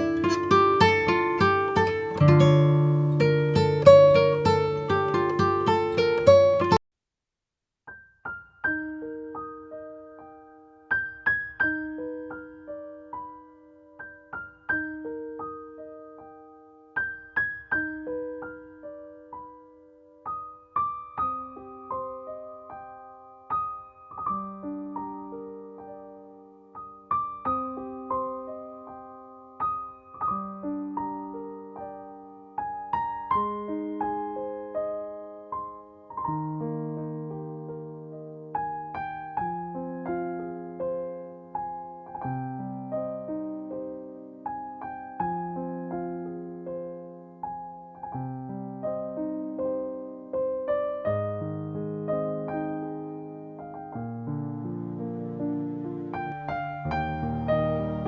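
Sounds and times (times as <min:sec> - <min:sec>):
soft piano music: 0:00.0 - 0:06.8, 0:07.9 - 0:58.0.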